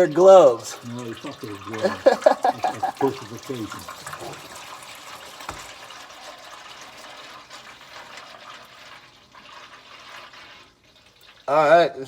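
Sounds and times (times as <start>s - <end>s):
oil pouring into a pan: 0.0s - 12.0s.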